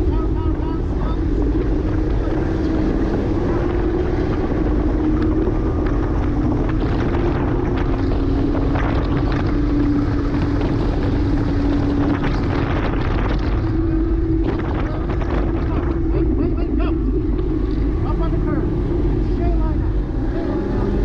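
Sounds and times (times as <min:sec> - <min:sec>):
car engine running hard: 0:00.0 - 0:21.0.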